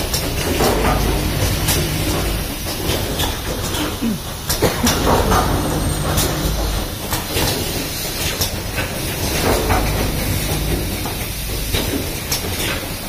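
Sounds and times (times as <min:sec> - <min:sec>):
machine clacks: 0:00.0 - 0:13.0
machine humming: 0:00.4 - 0:08.3, 0:09.0 - 0:12.2.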